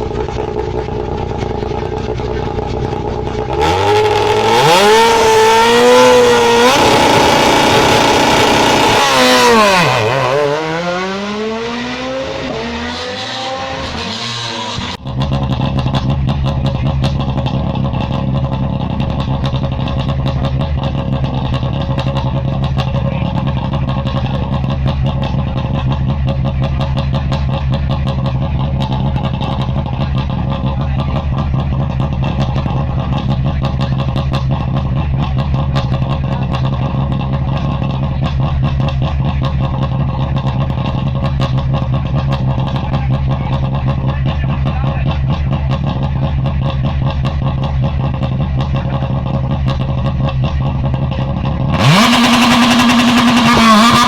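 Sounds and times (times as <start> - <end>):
rally car engine running: 0.0 - 54.0.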